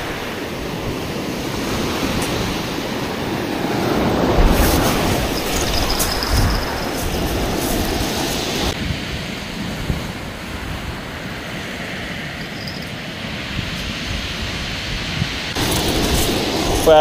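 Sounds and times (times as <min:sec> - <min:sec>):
surf washing onto beach: 0:00.0 - 0:12.0, 0:13.3 - 0:17.0
wind rumbling on microphone: 0:00.0 - 0:17.0.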